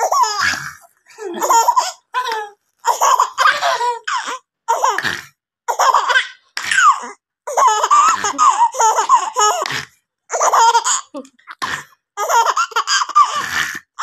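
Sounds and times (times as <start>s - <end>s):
baby laughing: 0.0s - 11.6s, 12.2s - 14.0s.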